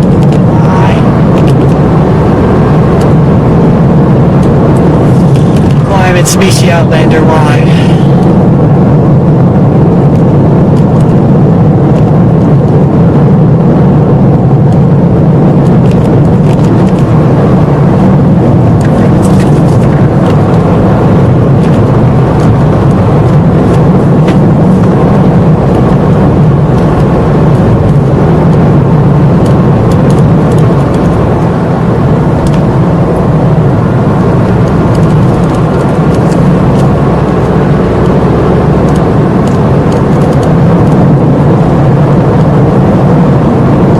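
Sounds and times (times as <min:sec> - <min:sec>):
car engine drone: 0:00.0 - 0:43.9
road noise: 0:00.0 - 0:43.9.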